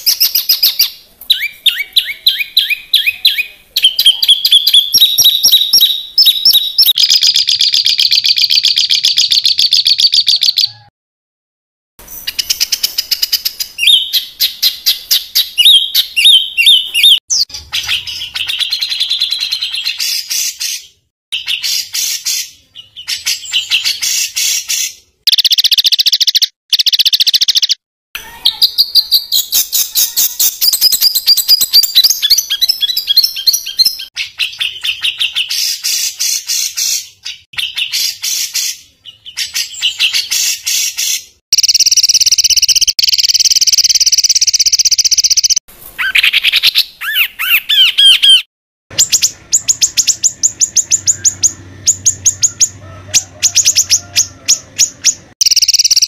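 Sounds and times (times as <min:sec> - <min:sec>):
songbird harsh rapid phrases: 0:00.0 - 0:10.9, 0:12.3 - 0:56.0.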